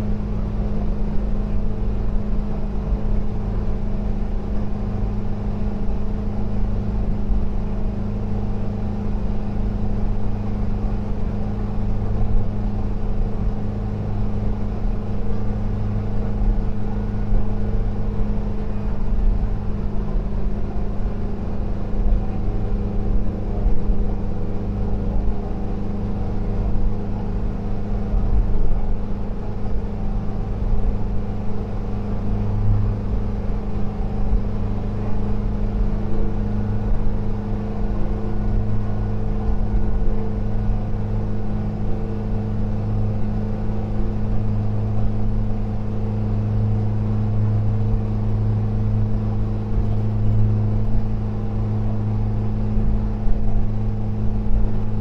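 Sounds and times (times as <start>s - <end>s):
road noise: 0.0s - 55.0s
van engine droning: 0.0s - 55.0s.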